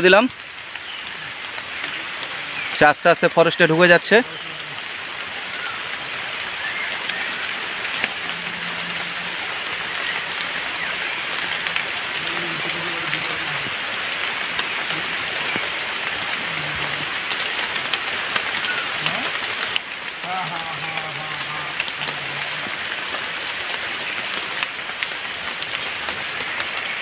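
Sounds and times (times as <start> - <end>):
light rain on leaves: 0.0 - 27.0.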